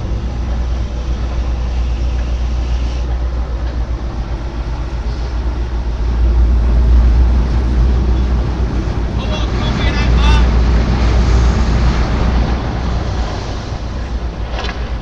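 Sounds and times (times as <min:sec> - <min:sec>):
heavy machinery rumbling: 0:00.0 - 0:15.0.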